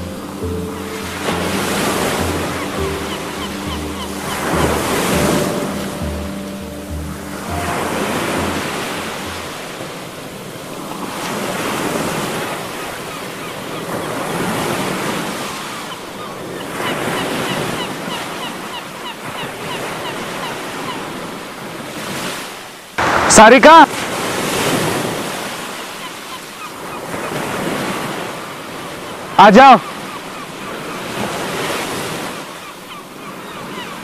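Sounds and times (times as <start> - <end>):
sea surf washing ashore: 0.0 - 34.0.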